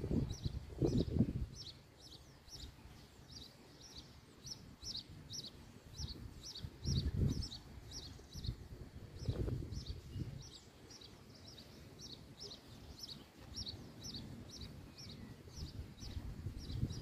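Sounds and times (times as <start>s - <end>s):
wind rumble on microphone: 0.0s - 3.4s, 4.8s - 17.0s
small bird chirping: 0.1s - 17.0s.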